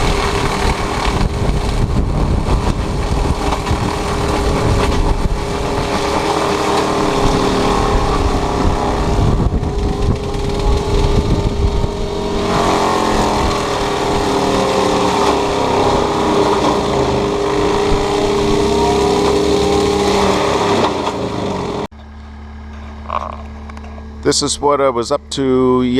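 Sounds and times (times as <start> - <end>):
mulching head spinning: 0.0 - 21.8
excavator diesel engine under load: 0.0 - 24.4.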